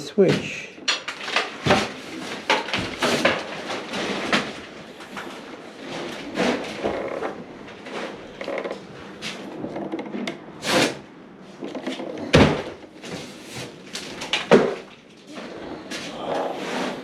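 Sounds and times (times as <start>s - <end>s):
rustling and clattering: 0.0s - 17.0s.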